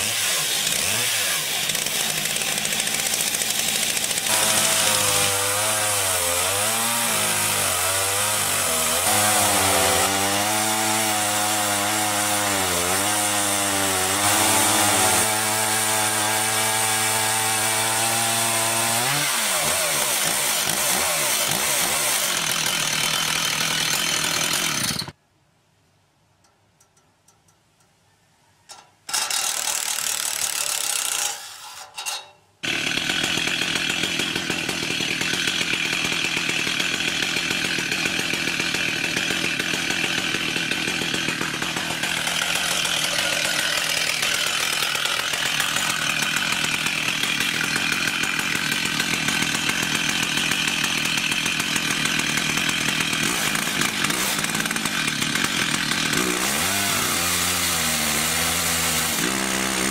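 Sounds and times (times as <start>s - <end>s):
chainsaw cutting log: 0.0s - 25.2s, 29.1s - 59.9s.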